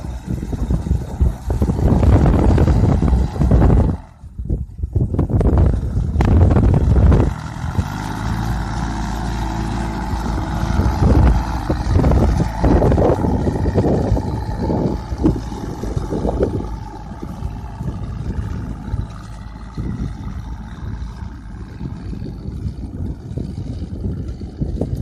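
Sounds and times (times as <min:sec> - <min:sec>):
tractor engine rumbling: 0:00.0 - 0:25.0.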